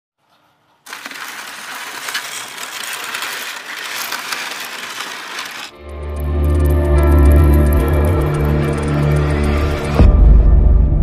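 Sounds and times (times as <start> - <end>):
dense crackling and clicking: 0.8 - 10.0.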